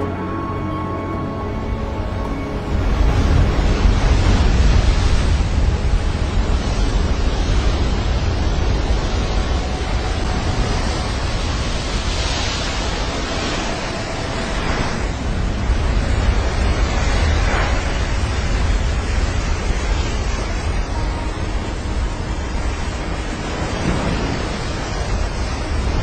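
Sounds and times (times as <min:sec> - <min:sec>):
ocean surf breaking: 0:00.7 - 0:26.0
wind buffeting microphone: 0:01.5 - 0:26.0.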